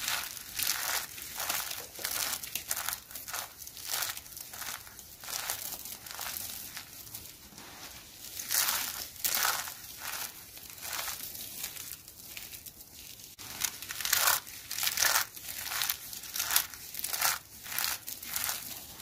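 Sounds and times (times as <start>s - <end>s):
soap shavings crunching in hands: 0.0s - 19.0s.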